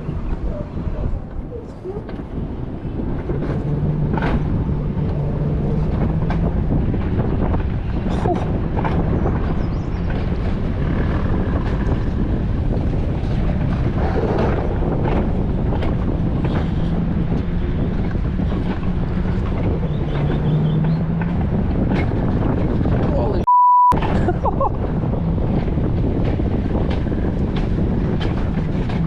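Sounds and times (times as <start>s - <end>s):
sled rumbling down track: 0.0s - 23.4s, 24.0s - 29.0s
wind buffeting microphone: 0.0s - 23.4s, 24.0s - 29.0s.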